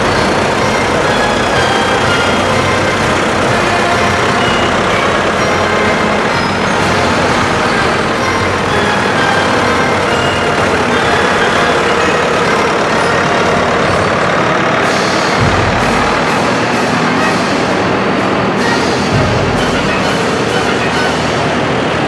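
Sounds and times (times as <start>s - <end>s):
tractor engines driving past: 0.0s - 22.0s.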